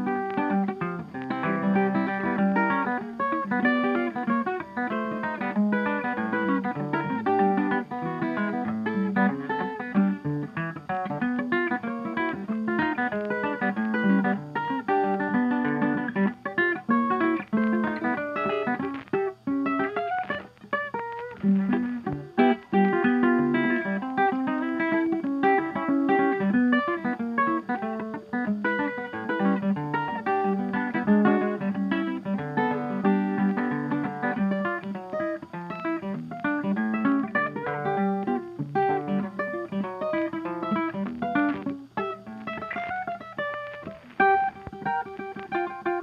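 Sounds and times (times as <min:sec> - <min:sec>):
plucked guitar music: 0:00.0 - 0:46.0.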